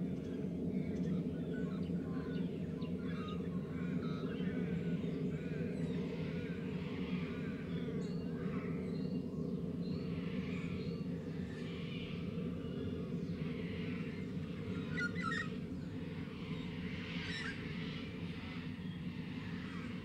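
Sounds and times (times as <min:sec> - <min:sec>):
birds chirping softly: 0:00.0 - 0:20.0
low background hum: 0:00.0 - 0:20.0.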